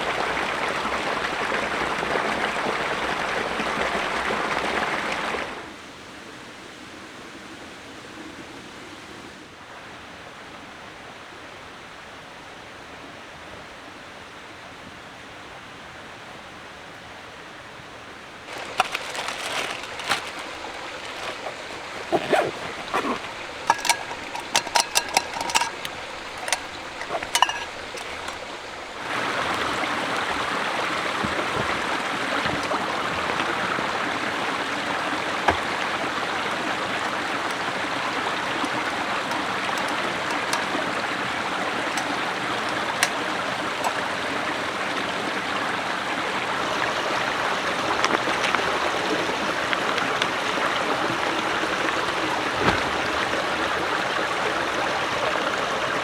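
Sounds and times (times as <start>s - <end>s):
running stream water: 0.0s - 8.7s, 12.5s - 56.0s.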